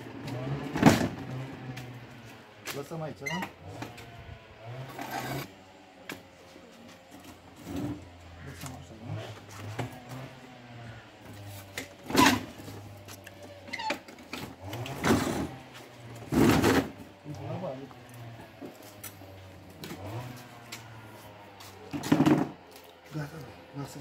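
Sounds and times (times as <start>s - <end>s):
scooter being pushed: 0.0s - 24.0s.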